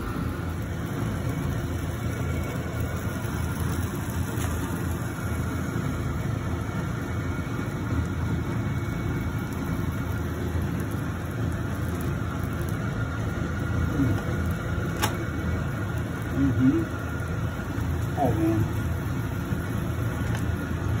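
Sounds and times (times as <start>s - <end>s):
sausages sizzling in frying pan: 0.0s - 21.0s.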